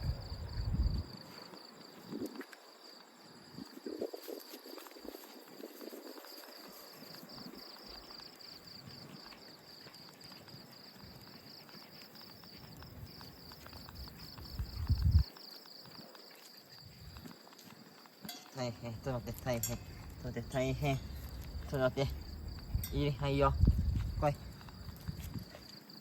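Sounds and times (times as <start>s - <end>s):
faint outdoor background noise: 0.0s - 26.0s
insects chirping: 0.0s - 26.0s.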